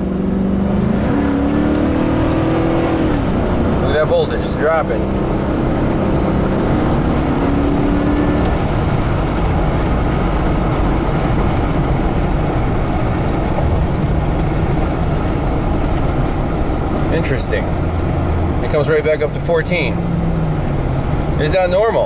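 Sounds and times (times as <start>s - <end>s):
engine and road drone: 0.0s - 22.0s.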